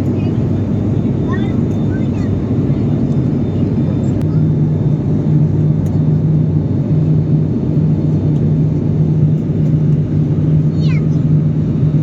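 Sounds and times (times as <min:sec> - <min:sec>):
airliner engines droning: 0:00.0 - 0:12.0.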